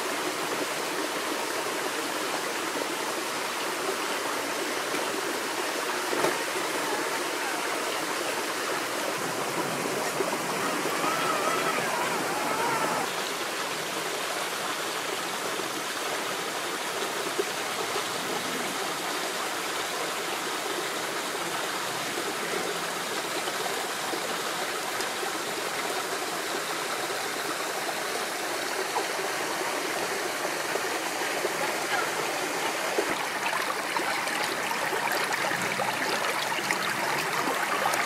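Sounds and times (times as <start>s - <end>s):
mountain stream rushing over rocks: 0.0s - 38.0s.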